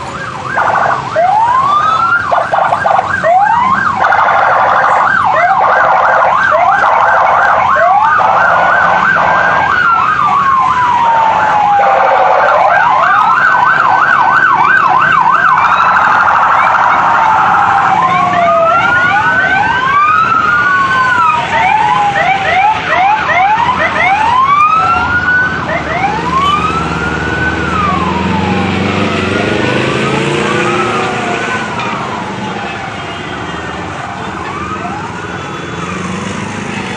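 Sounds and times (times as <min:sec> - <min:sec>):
police sirens yelping and wailing: 0:00.0 - 0:36.9.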